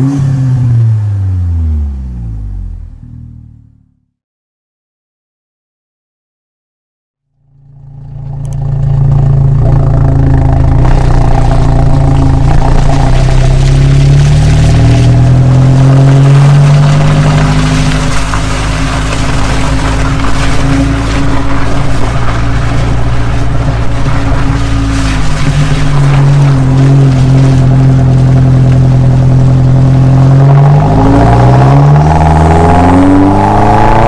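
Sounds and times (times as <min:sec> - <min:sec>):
car exhaust note: 0:00.0 - 0:04.1, 0:07.3 - 0:34.0.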